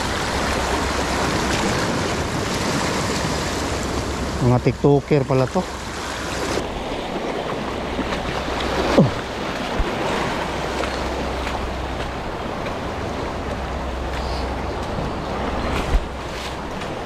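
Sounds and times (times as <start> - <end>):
wind and waves around boat: 0.0 - 17.0.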